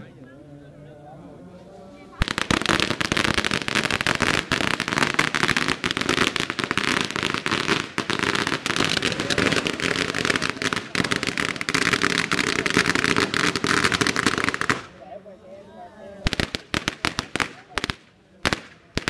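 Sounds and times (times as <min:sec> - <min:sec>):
firecrackers banging: 0:02.2 - 0:15.0, 0:16.2 - 0:19.0.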